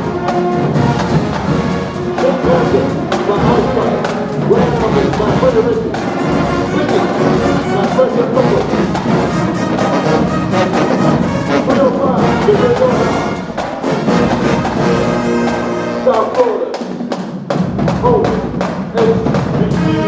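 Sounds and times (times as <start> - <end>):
drums beating: 0.0 - 20.0
marching band brass: 0.0 - 20.0.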